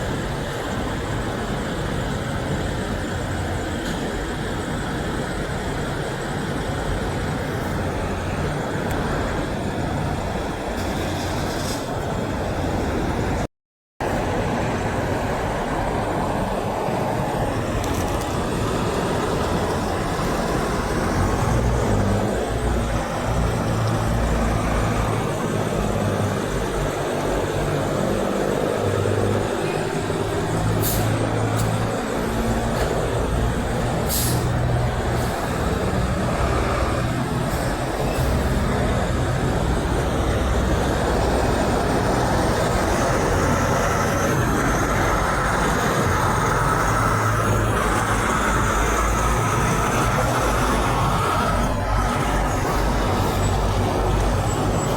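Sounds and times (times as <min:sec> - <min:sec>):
trucks driving past: 0:00.0 - 0:54.9.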